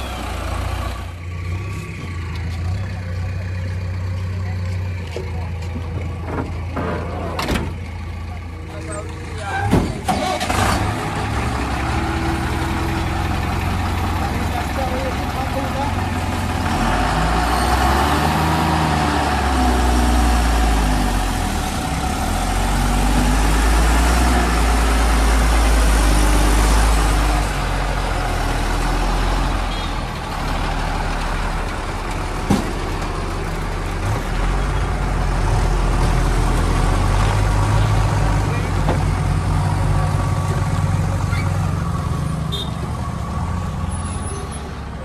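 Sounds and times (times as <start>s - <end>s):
diesel engine under load: 0.0s - 45.0s.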